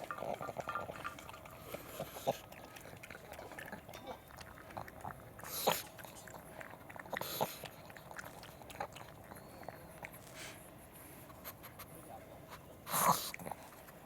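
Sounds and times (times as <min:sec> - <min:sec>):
dog chewing and crunching food: 0:00.0 - 0:14.0.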